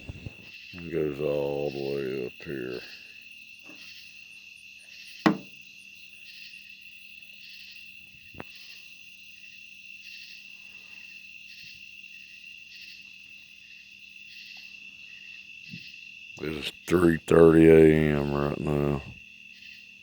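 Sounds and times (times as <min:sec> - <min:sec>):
crickets and insects chirping: 0:00.0 - 0:20.0.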